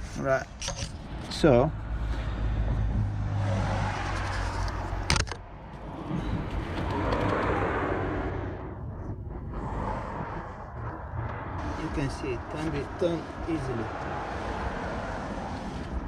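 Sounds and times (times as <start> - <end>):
car wheel spinning whir: 1.9 - 16.0.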